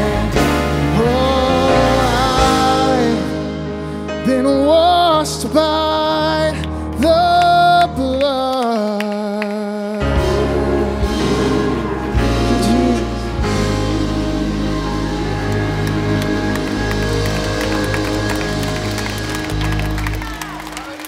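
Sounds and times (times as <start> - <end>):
bass guitar: 0.0 - 8.5, 10.0 - 21.0
person singing: 0.0 - 20.8.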